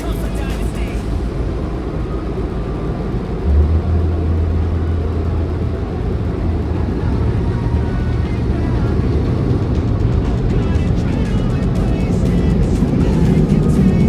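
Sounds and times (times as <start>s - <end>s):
car rumble: 0.0s - 14.0s
deep loud hum: 0.0s - 14.0s.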